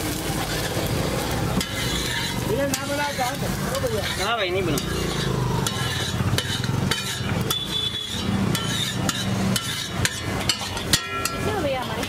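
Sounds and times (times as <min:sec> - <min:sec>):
metal spatula scraping griddle: 0:00.0 - 0:12.0.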